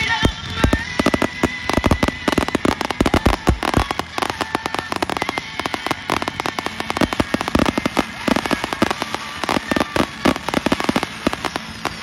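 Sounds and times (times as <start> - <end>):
fireworks bangs and pops: 0.0 - 12.0
fireworks crackle: 0.0 - 12.0.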